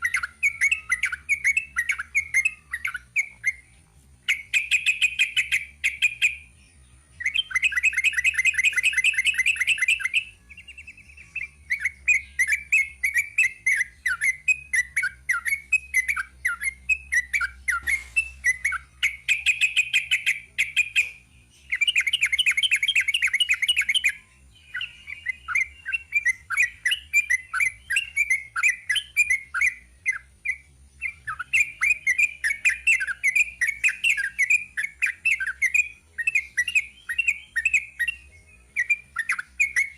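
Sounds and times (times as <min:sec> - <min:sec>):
bulbul singing chattering notes: 0:00.0 - 0:39.9
rapid bird trills: 0:00.0 - 0:39.9.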